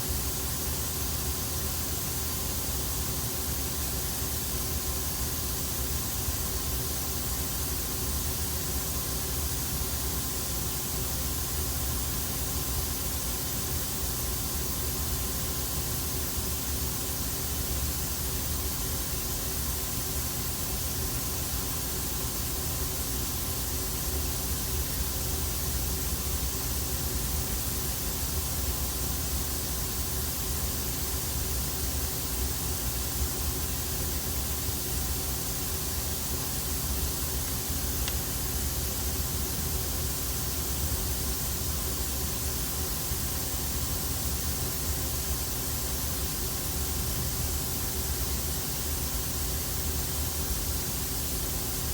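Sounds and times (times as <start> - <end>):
machine hum and hiss: 0.0 - 51.9.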